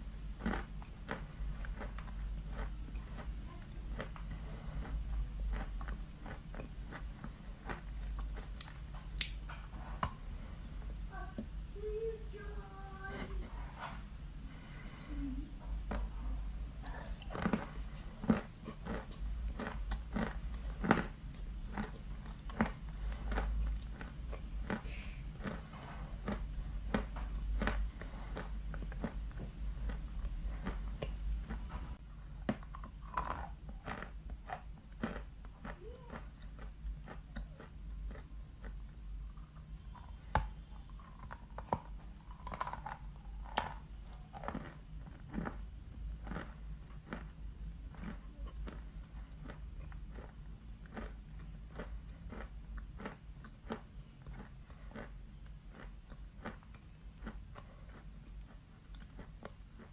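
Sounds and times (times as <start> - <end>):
chewing and crunching chalk: 0.3 - 11.0, 16.8 - 59.9.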